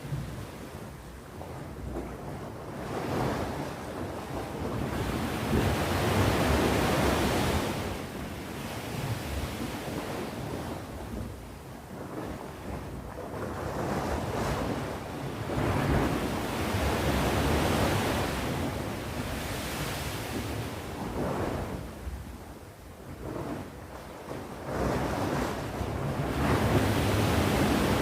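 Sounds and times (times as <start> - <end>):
sea waves breaking on shore: 0.0 - 28.0
wind rumble on microphone: 0.0 - 28.0.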